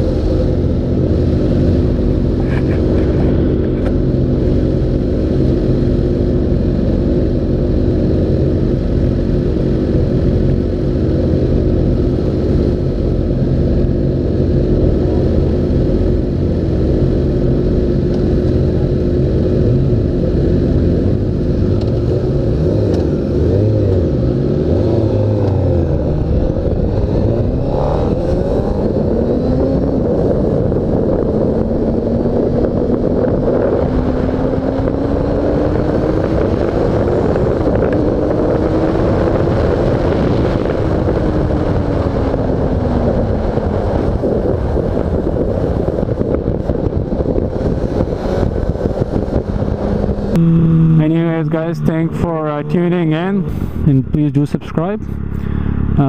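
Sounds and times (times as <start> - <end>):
motorbike engine idling and revving: 0.0 - 56.0.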